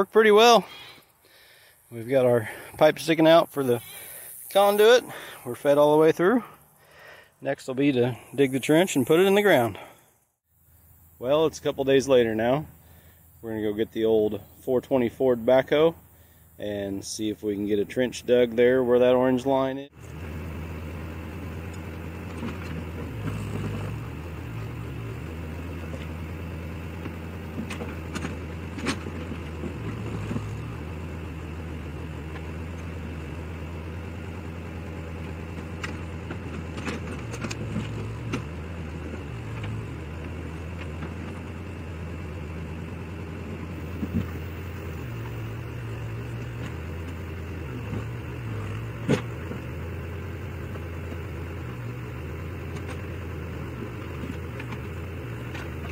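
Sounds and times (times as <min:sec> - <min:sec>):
backhoe engine running: 0:00.0 - 0:55.9.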